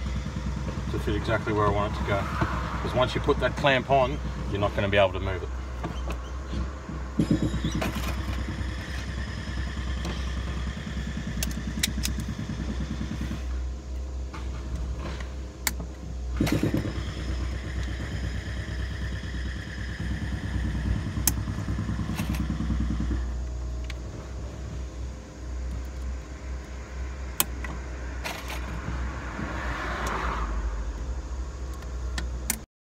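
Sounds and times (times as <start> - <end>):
engine-like hum: 0.0 - 32.7.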